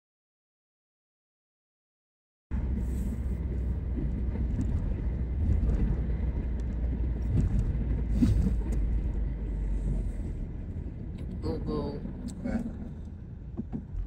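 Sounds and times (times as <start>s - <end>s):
car interior engine and tyre rumble: 2.5s - 14.0s.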